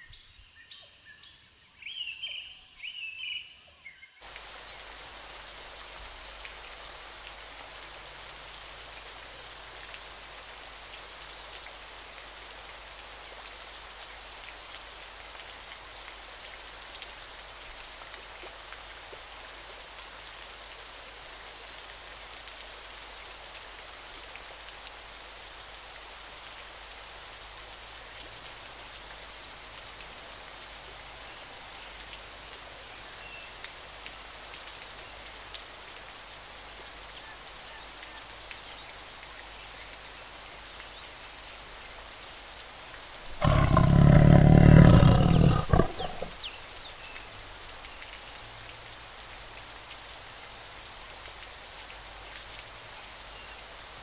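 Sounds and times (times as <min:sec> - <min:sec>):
steady rain hiss: 0:01.6 - 0:54.0.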